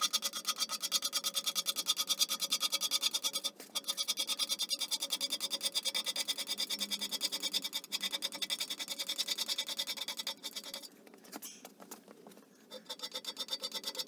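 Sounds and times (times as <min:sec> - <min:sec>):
hand scraper rasping on metal: 0:00.0 - 0:10.9, 0:12.7 - 0:14.0.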